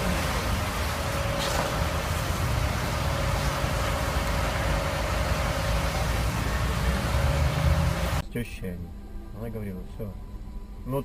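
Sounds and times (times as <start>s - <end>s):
engine rumble and hum: 0.0s - 11.0s.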